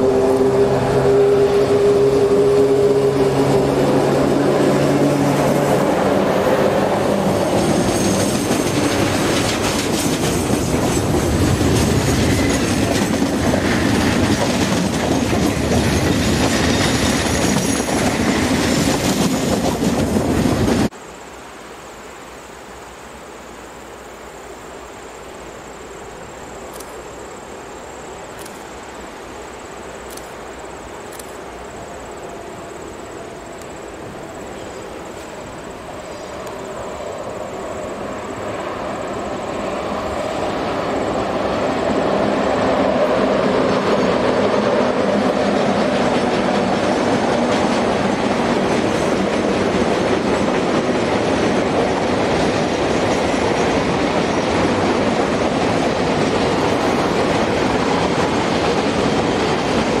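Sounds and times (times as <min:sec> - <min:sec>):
freight train rumbling over rails: 0:00.0 - 0:21.0, 0:24.8 - 1:00.0.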